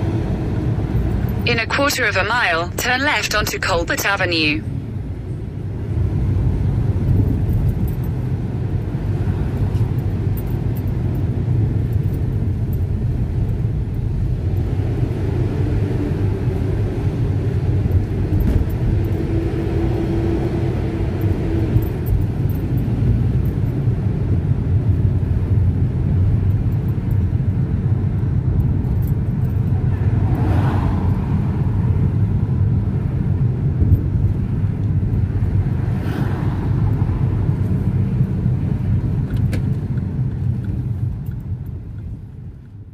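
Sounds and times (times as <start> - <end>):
car interior engine and tyre rumble: 0.0 - 42.9.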